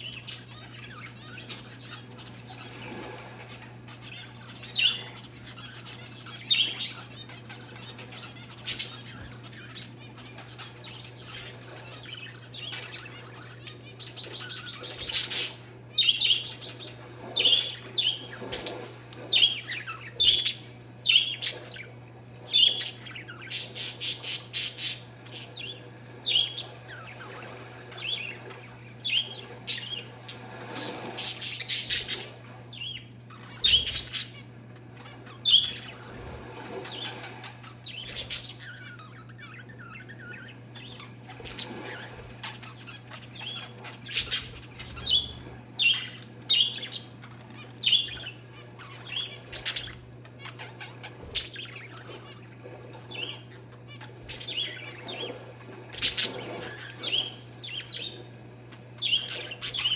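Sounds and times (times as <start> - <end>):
birds chirping: 0.0 - 59.9
steady low hum: 0.0 - 59.9.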